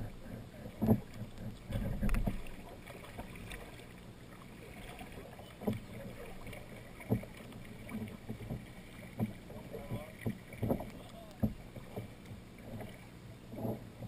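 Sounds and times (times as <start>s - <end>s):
paddle splashing into water: 0.0s - 13.8s
rushing river water: 0.0s - 14.0s.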